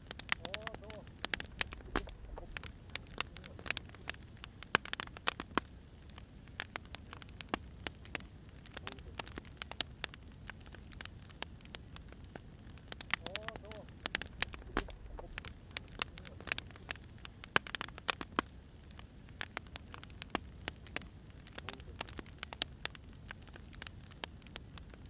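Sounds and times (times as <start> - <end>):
firewood crackling and popping: 0.0 - 25.0
low fire rumble: 0.0 - 25.0.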